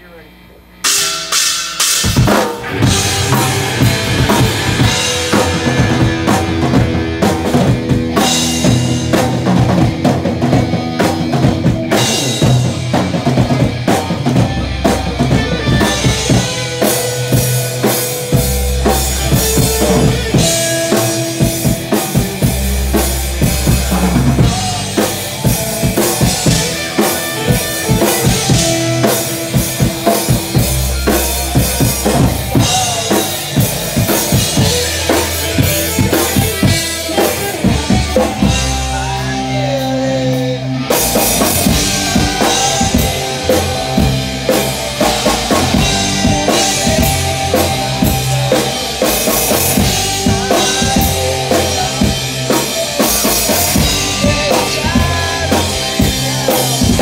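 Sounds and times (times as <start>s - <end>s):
electric guitar chords: 0.7s - 57.0s
drum kit beat: 0.8s - 57.0s
low bass notes: 2.1s - 57.0s.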